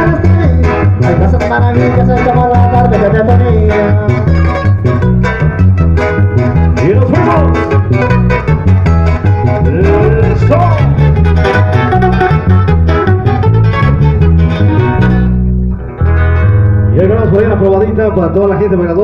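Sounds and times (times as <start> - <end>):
bass line: 0.0 - 19.0
live band playing guitars: 0.0 - 19.0.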